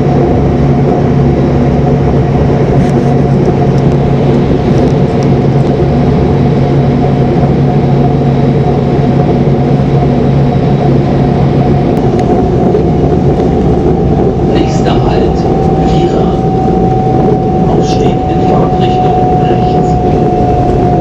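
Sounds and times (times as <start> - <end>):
electric train motor hum: 0.0 - 21.0.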